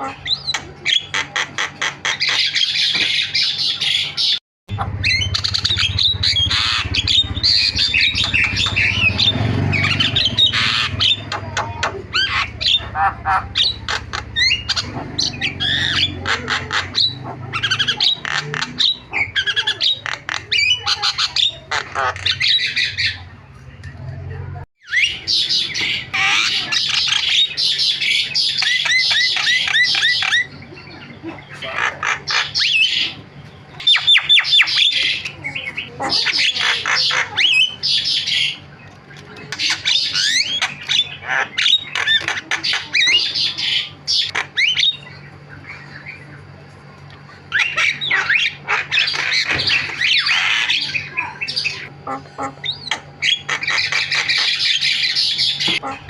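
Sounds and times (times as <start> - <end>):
myna chattering song: 0.0 - 56.0.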